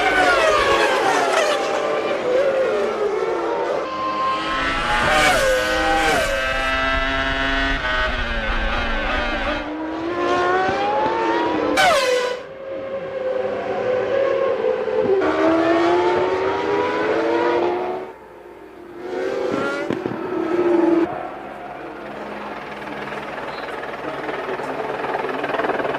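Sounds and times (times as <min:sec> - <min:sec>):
race car passing close: 0:00.0 - 0:23.6
race car engines at high revs: 0:00.0 - 0:24.7.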